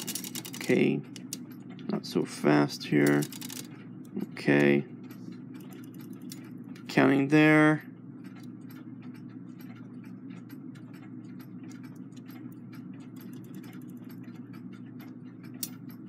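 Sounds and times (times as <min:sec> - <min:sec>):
rapid clicks of clock gears: 0:00.0 - 0:16.0
steady low hum: 0:00.0 - 0:16.0.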